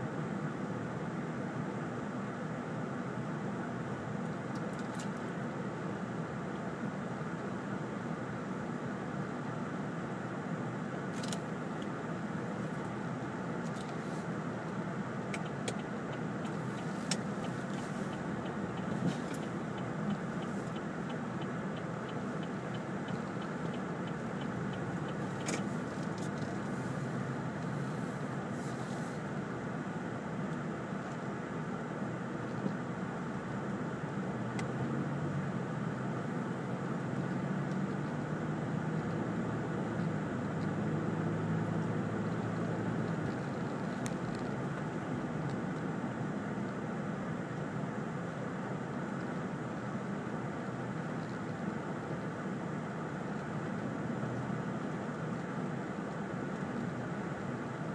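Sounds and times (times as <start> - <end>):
car engine and tyre hum: 0.0 - 57.9.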